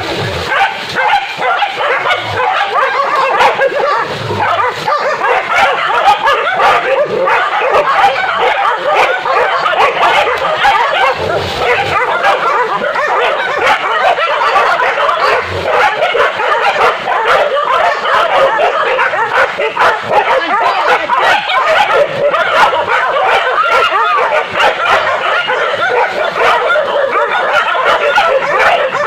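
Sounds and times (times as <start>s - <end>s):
dogs barking and yelping: 0.0s - 29.0s.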